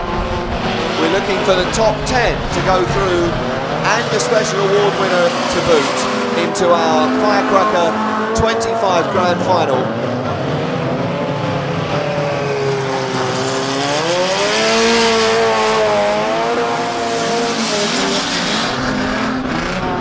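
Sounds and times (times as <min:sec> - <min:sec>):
race car engines running: 0:00.0 - 0:20.0.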